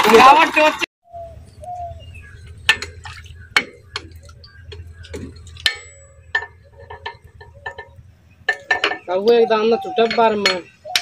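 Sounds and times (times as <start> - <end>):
tractor engine hum: 1.1 - 11.0.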